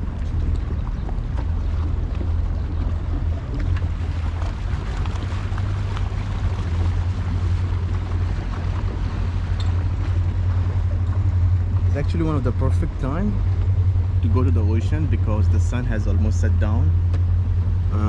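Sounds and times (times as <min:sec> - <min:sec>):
boat engine droning: 0:00.0 - 0:18.0
water noise: 0:00.0 - 0:18.0
wind on microphone: 0:00.0 - 0:18.0.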